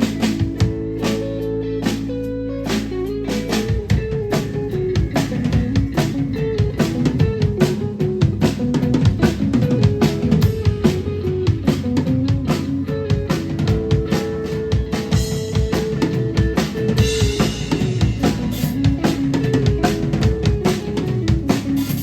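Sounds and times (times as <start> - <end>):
fast drum beat: 0.0 - 22.0
rock band playing: 0.0 - 22.0.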